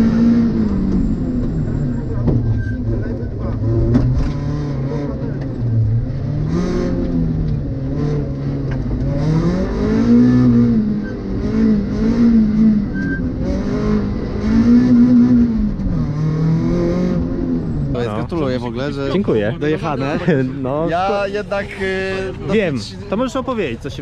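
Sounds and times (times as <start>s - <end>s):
car engine revving: 0.0s - 22.5s.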